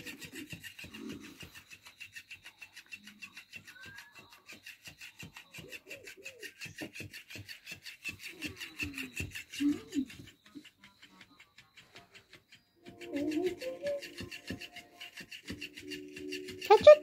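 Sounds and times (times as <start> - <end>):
cat toy rasping against fabric: 0.0 - 17.0.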